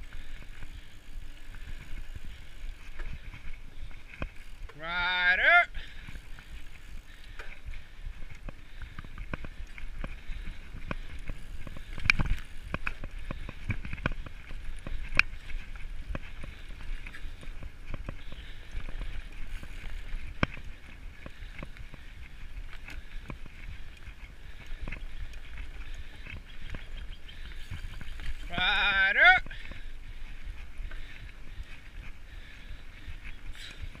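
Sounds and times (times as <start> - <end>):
bike clicking and rattling: 0.0 - 34.0
tyres running over dirt: 0.0 - 34.0
wind rumbling on microphone: 0.0 - 34.0.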